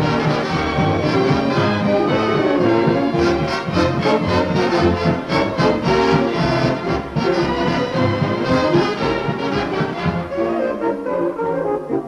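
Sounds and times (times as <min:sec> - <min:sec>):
orchestral music with brass: 0:00.0 - 0:12.0.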